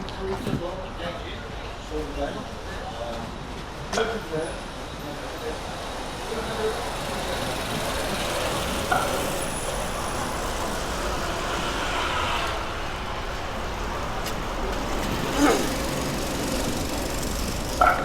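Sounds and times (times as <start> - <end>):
passing road traffic: 3.4 - 18.0.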